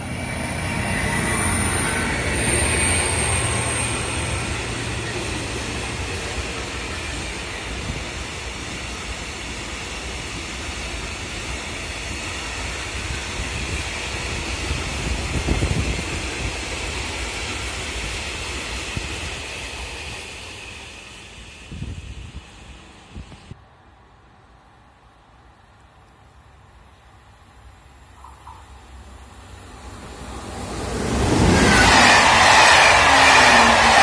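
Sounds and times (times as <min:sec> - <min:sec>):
train rumble and rail noise: 0:00.0 - 0:34.0.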